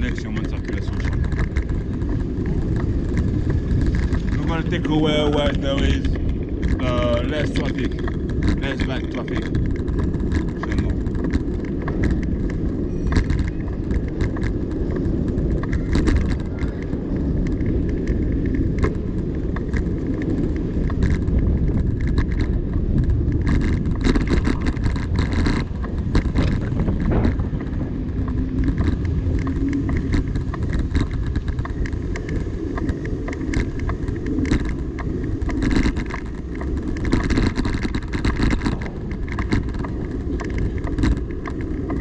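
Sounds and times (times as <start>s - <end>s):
small rattles and clicks: 0.0s - 42.0s
wind and road noise rumble: 0.0s - 42.0s.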